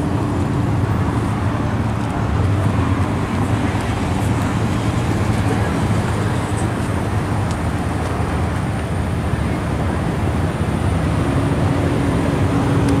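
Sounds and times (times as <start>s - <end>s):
engine hum: 0.0s - 13.0s
road traffic rumble: 0.0s - 13.0s.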